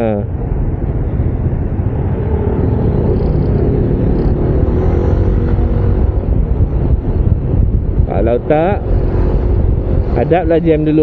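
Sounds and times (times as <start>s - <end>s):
faint engine drone: 0.0s - 11.0s
traffic rumble: 0.0s - 11.0s
wind buffeting a microphone: 0.0s - 11.0s.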